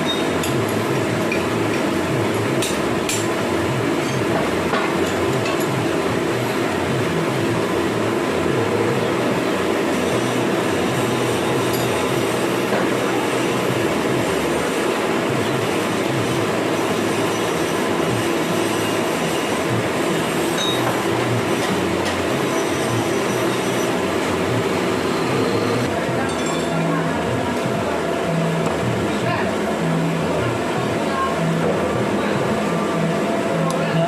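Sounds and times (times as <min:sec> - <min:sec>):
metalworking machine running: 0:00.0 - 0:34.0.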